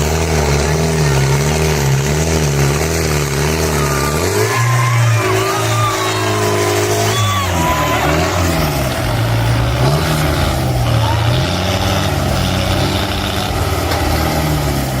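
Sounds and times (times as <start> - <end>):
tractor diesel engine labouring: 0.0 - 15.0.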